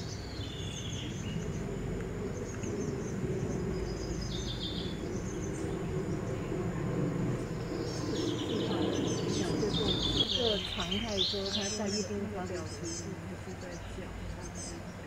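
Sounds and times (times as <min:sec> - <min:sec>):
bird trill: 0:00.0 - 0:06.5, 0:07.5 - 0:15.0
birds chirping: 0:00.0 - 0:15.0
low background hum: 0:00.0 - 0:15.0.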